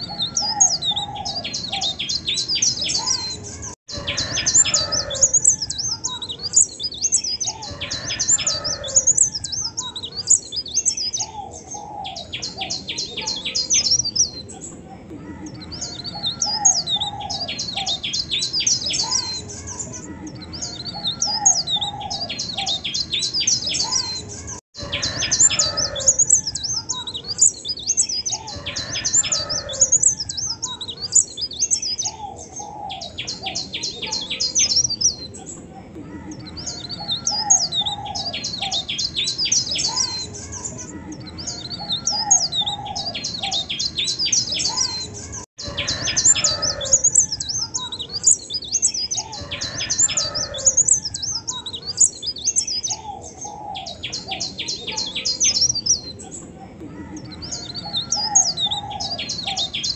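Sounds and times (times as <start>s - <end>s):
songbird trilling and whistling: 0.0s - 14.8s, 15.4s - 35.5s, 36.4s - 56.3s, 57.1s - 59.9s.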